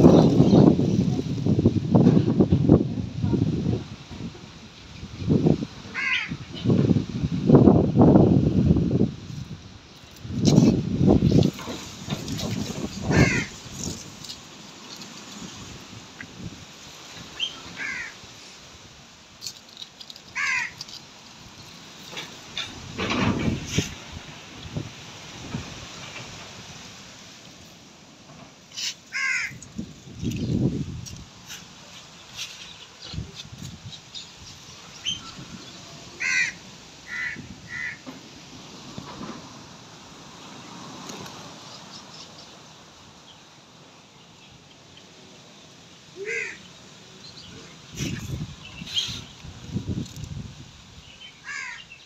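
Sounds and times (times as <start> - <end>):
outdoor background noise: 0.0 - 52.0.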